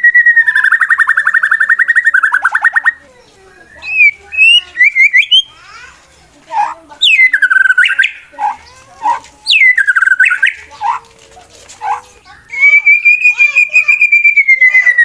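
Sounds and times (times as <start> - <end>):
bird singing: 0.0 - 5.6, 6.5 - 11.1, 11.8 - 15.0.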